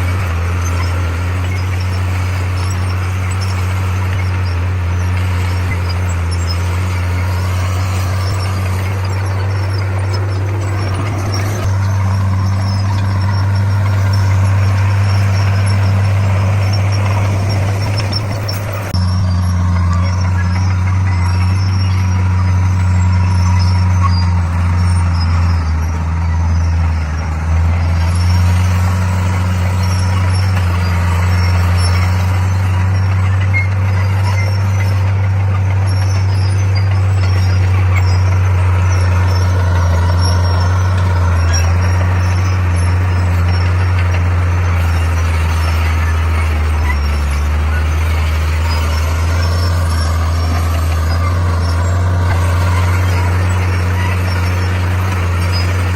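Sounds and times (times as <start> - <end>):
bulldozer diesel engine droning: 0.0 - 55.9.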